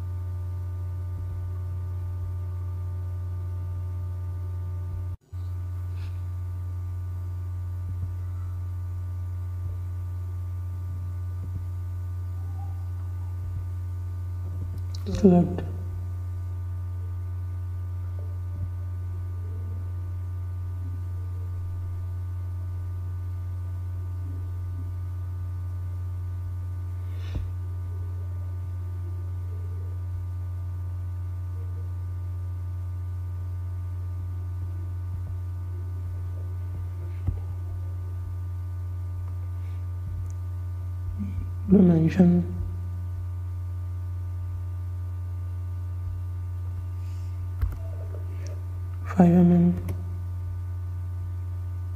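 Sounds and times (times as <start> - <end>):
faint high buzzing tones: 0.0 - 51.9
low electrical hum: 0.0 - 51.9.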